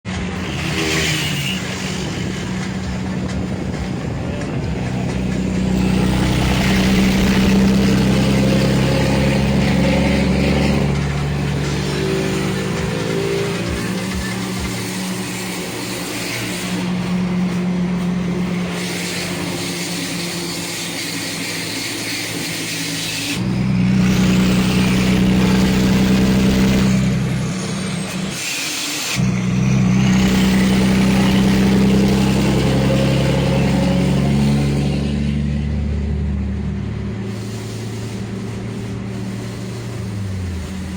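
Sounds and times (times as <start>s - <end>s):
truck diesel engine rumbling: 0.1s - 28.4s, 29.2s - 40.9s.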